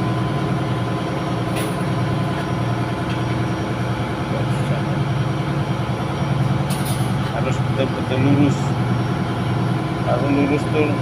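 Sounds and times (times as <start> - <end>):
engine-room machinery drone: 0.0 - 11.0.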